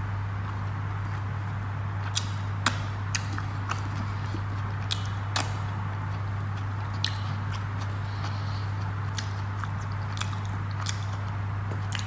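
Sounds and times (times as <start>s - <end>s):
steady low hum: 0.0s - 12.0s
eating sounds: 2.0s - 12.0s.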